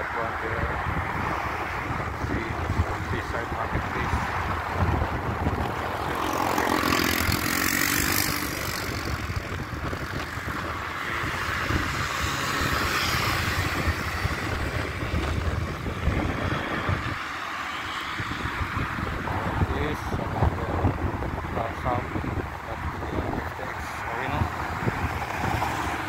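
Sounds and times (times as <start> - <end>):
cars passing: 0.0 - 26.0
wind buffeting microphone: 0.0 - 26.0.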